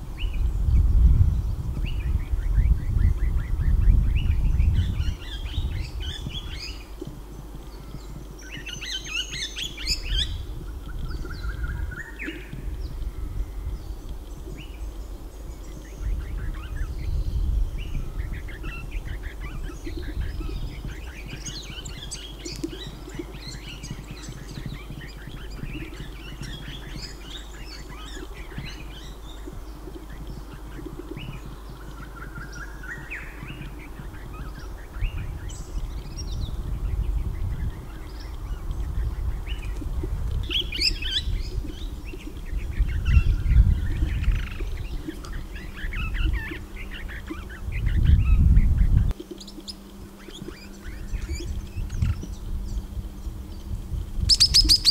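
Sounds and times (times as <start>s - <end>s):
low rumble of wind: 0.0s - 54.9s.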